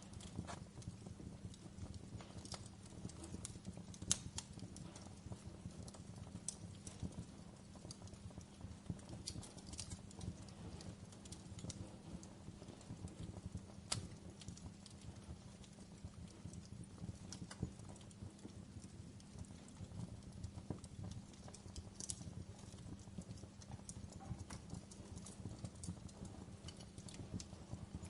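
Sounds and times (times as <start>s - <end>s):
campfire crackling and popping: 0.0s - 28.0s
low rumble of flames: 0.0s - 28.0s.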